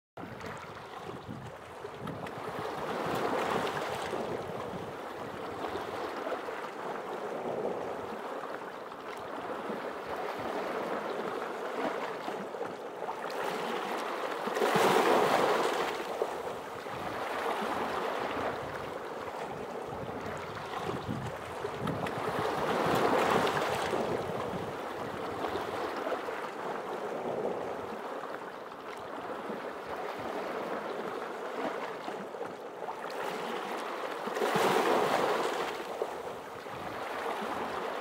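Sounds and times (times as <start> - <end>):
small waves lapping: 0.2 - 38.0.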